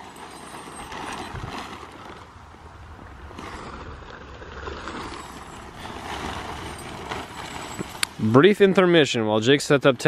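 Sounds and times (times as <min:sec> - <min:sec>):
tent fabric rustling: 0:00.0 - 0:09.0.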